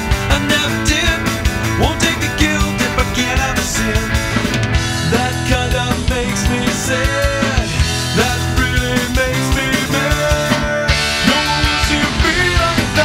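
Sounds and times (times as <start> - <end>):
rock band music: 0.0 - 13.0.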